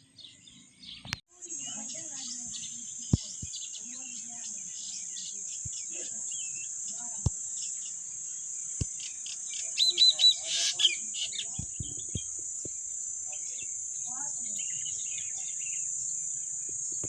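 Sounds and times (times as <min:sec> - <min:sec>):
small birds chirping: 0:00.0 - 0:17.0
steady high hiss: 0:01.3 - 0:17.0.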